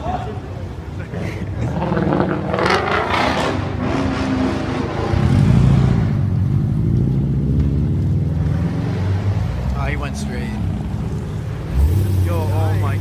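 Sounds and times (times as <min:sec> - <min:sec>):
car engine revving: 0:01.5 - 0:13.0.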